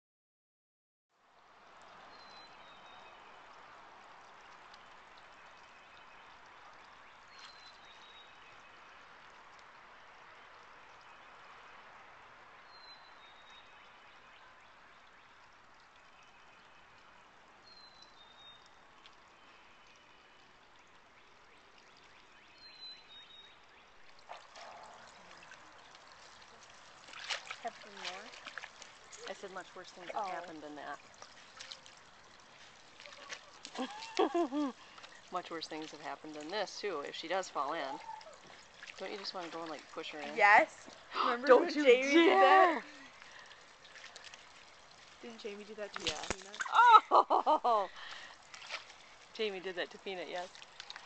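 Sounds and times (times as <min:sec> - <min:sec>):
water trickling from small waterfall: 0:01.2 - 0:51.0.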